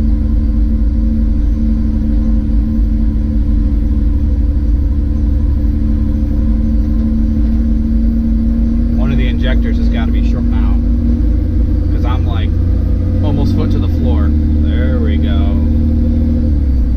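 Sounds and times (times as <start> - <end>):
car engine and road drone: 0.0 - 16.9.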